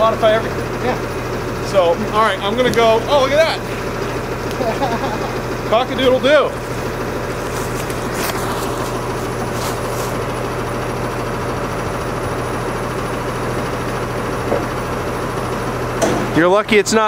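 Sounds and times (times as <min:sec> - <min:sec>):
small gasoline engine idling: 0:00.0 - 0:17.0.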